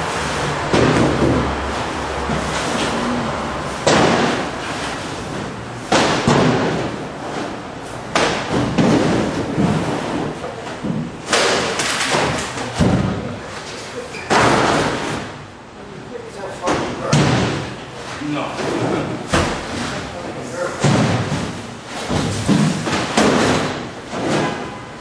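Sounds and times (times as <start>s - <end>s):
heavy thuds of goods dropped: 0.1s - 15.5s, 16.6s - 25.0s.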